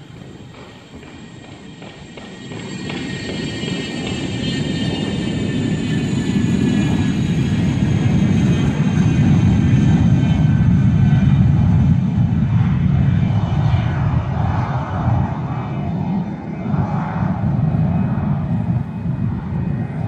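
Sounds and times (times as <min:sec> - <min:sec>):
high turbine whine: 0:00.0 - 0:20.0
jet engines rumbling at takeoff: 0:00.0 - 0:20.0.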